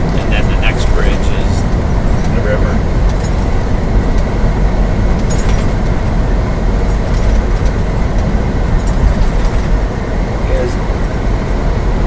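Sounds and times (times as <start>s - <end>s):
truck road and engine noise: 0.0s - 12.0s.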